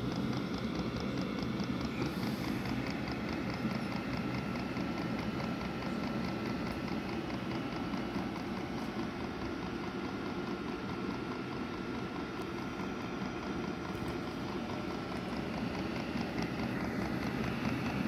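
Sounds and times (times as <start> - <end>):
diesel air heater rumbling: 0.0 - 18.0
thin steady whine: 0.0 - 18.0.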